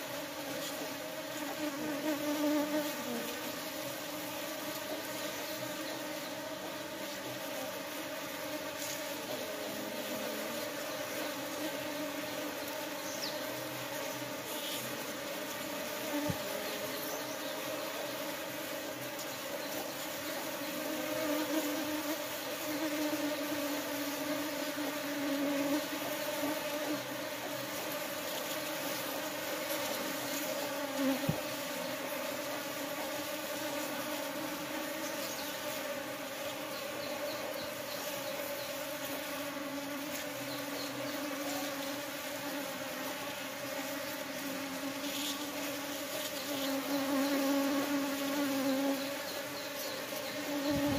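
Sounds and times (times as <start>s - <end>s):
honeybees buzzing: 0.0s - 50.9s.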